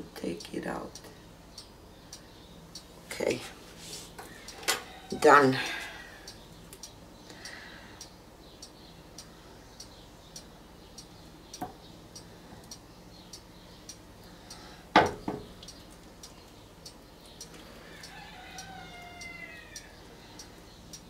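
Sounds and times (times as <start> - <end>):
faint even ticking: 0.3 - 3.1, 4.3 - 21.0.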